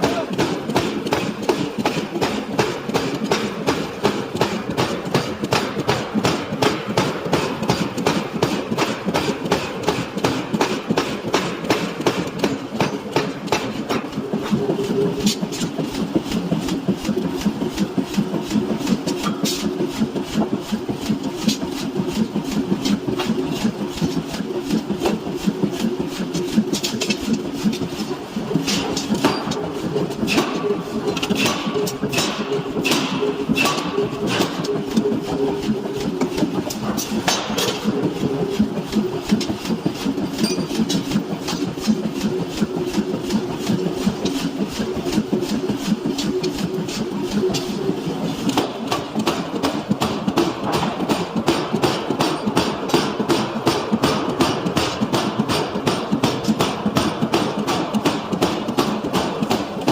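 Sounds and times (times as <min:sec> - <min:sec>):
machine drone: 0:00.0 - 0:59.9.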